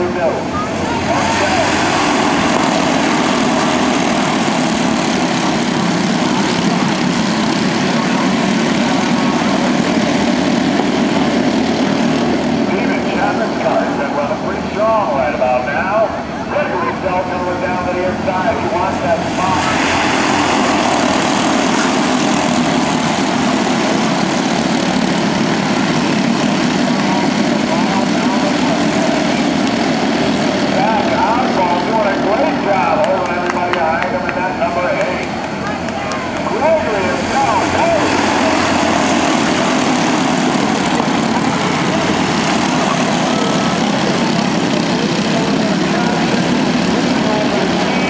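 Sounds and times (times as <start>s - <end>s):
kart engines droning: 0.0s - 48.0s.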